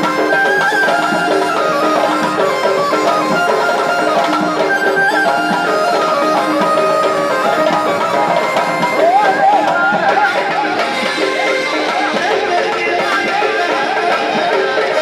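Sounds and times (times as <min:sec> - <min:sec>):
bagpipe playing folk melody: 0:00.0 - 0:15.0.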